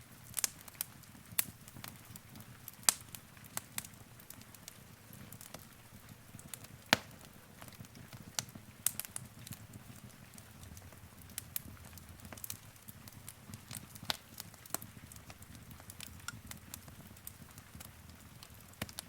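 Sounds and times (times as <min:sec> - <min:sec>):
wood fire burning: 0:00.0 - 0:19.0.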